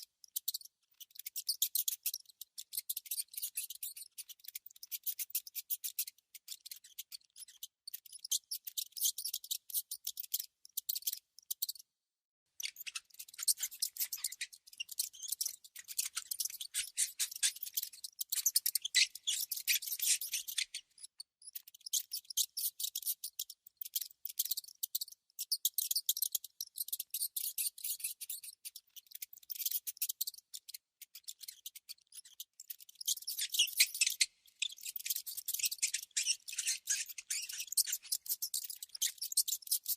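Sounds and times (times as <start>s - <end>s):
mouse scratching and clicking: 0.4s - 11.8s, 12.6s - 39.9s.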